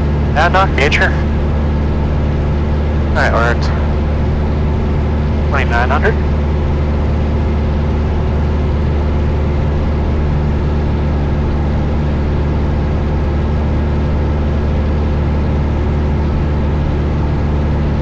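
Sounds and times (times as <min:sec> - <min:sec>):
light aircraft engine drone: 0:00.0 - 0:18.0.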